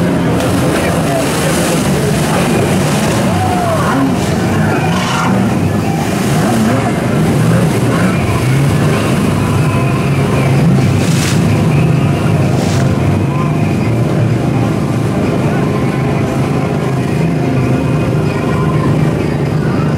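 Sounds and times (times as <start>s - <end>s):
jet ski engines revving: 0.0s - 19.9s.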